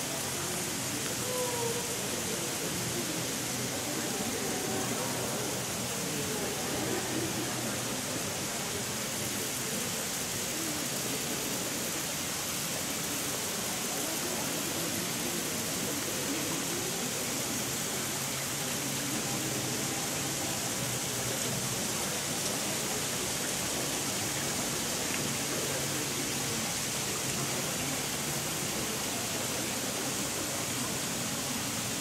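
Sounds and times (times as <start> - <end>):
water falling on wet paving: 0.0 - 32.0.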